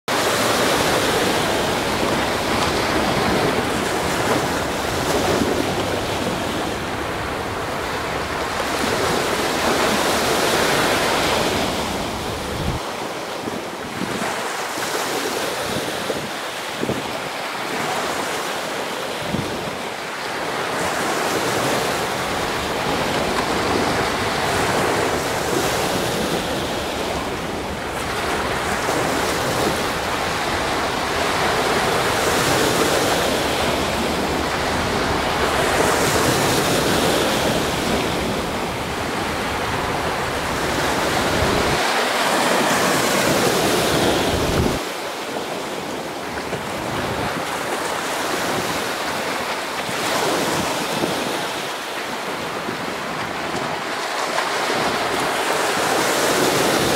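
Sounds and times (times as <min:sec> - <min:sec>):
sea waves washing in: 0:00.1 - 0:56.9
wind buffeting microphone: 0:00.1 - 0:56.9.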